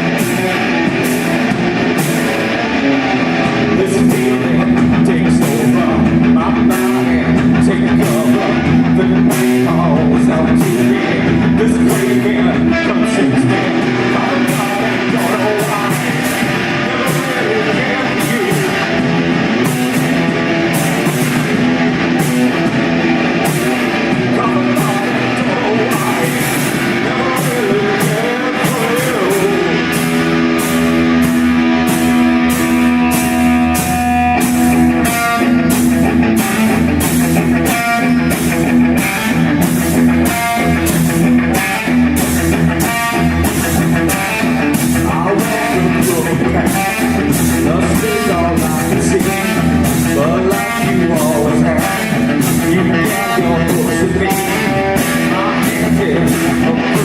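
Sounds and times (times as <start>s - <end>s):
drum kit and cymbals: 0.0s - 57.0s
electric guitar: 0.0s - 57.0s.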